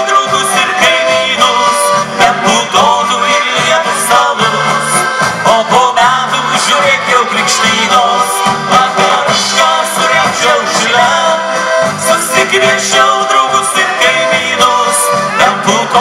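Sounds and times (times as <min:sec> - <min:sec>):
accordions playing lively tune: 0:00.0 - 0:16.0
steady drum beat: 0:00.0 - 0:16.0.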